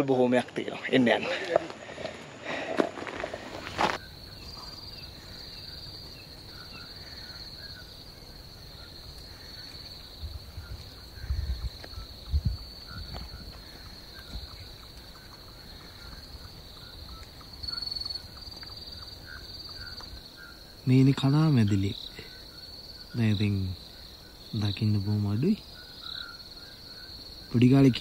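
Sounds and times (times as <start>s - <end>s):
high-pitched insect chorus: 0.0s - 28.0s
faint chirps: 3.8s - 28.0s.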